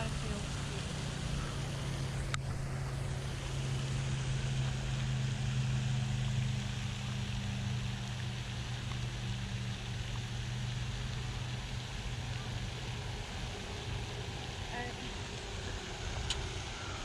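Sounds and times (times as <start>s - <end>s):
faint outdoor noise: 0.0s - 17.0s
low mechanical hum: 0.0s - 17.0s.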